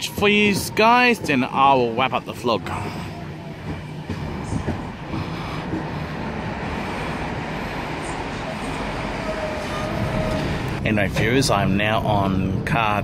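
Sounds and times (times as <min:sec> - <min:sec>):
electric train running: 0:00.0 - 0:12.2.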